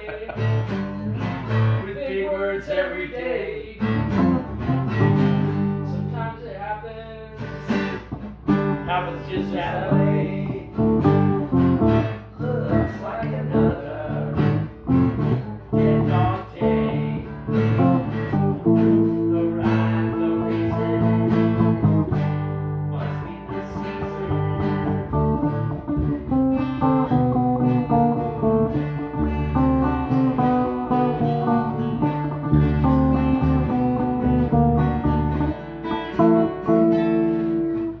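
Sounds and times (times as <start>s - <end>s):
electric guitar playing: 0.0s - 2.0s, 3.7s - 6.3s, 7.2s - 38.0s.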